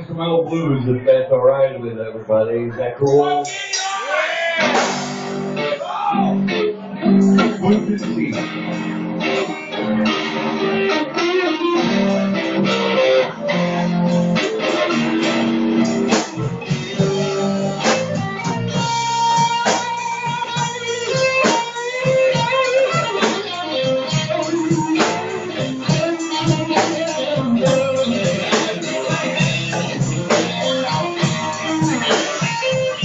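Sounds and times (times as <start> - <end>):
bass guitar: 1.9 - 33.0
drum kit: 3.2 - 33.0
electric guitar lead with bends: 3.2 - 33.0.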